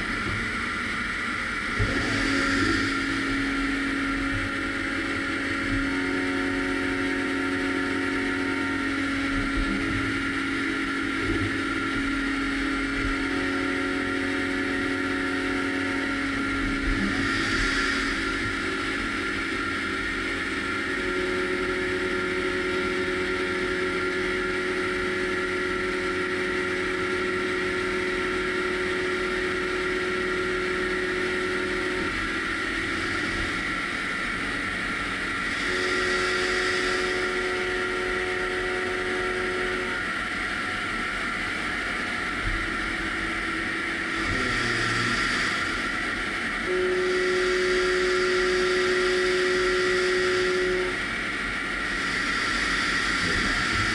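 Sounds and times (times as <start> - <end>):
humming tone: 0.0 - 53.9
milling machine whir: 0.0 - 53.9.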